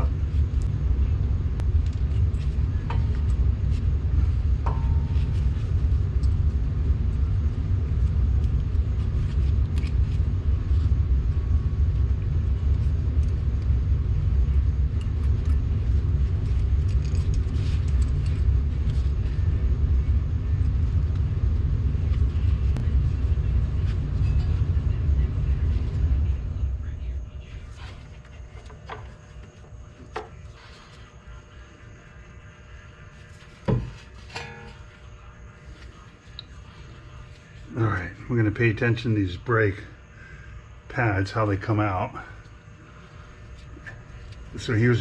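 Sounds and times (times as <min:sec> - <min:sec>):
steady low rumble: 0:00.0 - 0:45.0.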